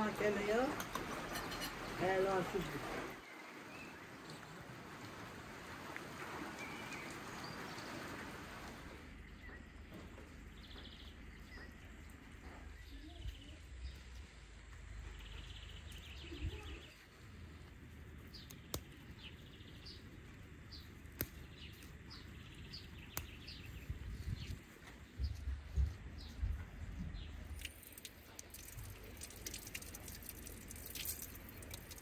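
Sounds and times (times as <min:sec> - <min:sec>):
songbirds chirping and trilling: 0:00.0 - 0:32.0.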